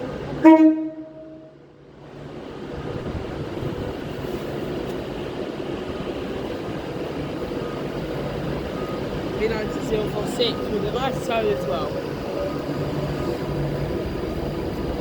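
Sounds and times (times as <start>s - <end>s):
diesel train running into station: 0.0s - 15.0s.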